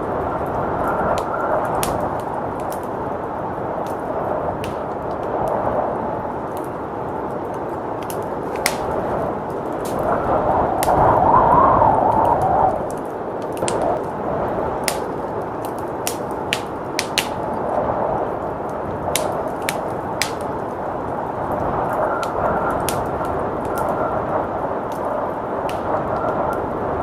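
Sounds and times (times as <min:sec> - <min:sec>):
blizzard wind rushing: 0:00.0 - 0:27.0
wood fire crackling and popping: 0:00.0 - 0:27.0.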